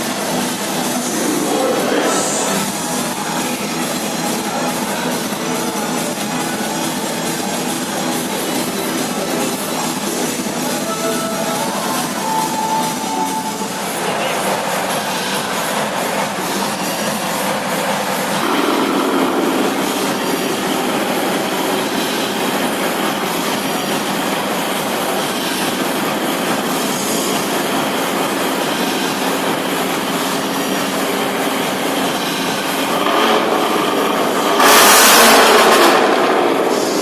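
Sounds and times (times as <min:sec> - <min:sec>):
loud car engine running: 0:00.0 - 0:37.0.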